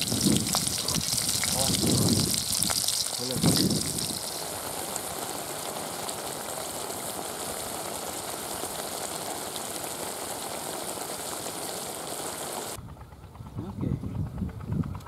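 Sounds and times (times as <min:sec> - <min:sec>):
sauce simmering and sizzling: 0:00.0 - 0:12.8.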